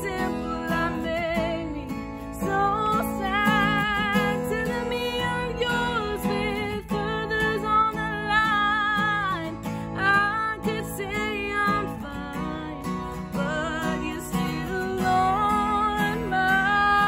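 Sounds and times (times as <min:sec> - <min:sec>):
strummed acoustic guitar: 0:00.0 - 0:17.0
woman singing pop song: 0:00.0 - 0:17.0.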